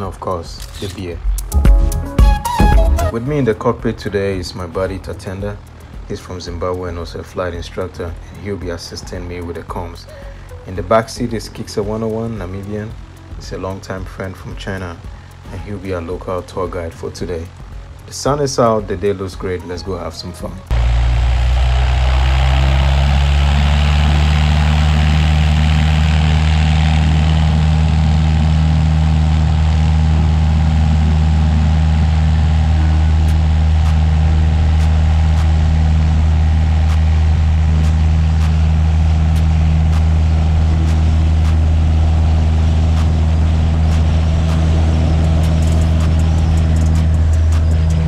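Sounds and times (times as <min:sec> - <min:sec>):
light aircraft engine droning: 0:00.0 - 0:01.6, 0:02.8 - 0:48.0.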